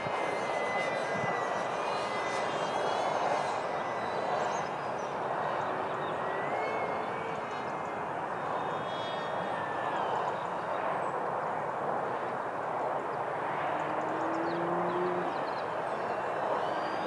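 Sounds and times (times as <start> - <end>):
model jet ducted fan whine: 0.0 - 17.0.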